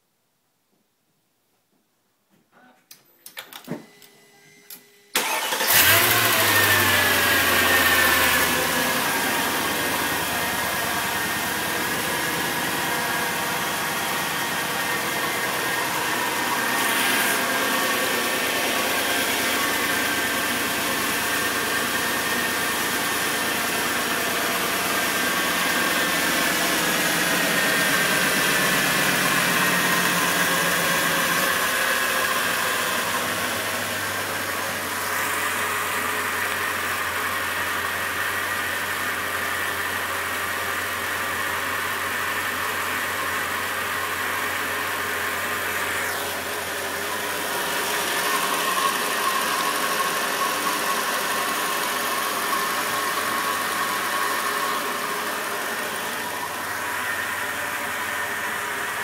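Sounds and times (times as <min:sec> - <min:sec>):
car engine starting and idling: 0:04.7 - 0:59.0.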